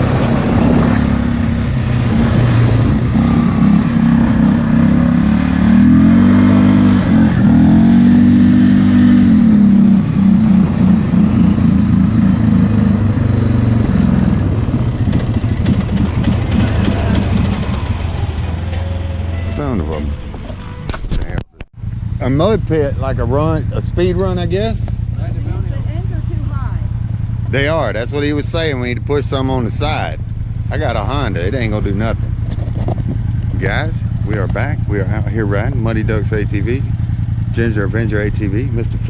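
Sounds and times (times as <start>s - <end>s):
atv engine revving: 0.0s - 39.0s.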